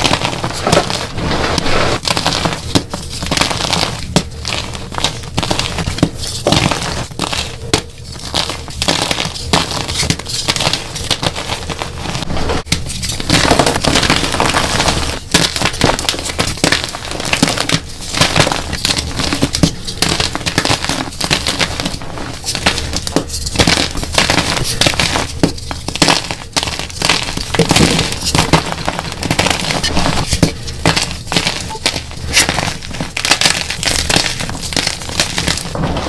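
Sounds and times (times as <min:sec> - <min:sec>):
chalk crunching by hand: 0:00.0 - 0:36.0.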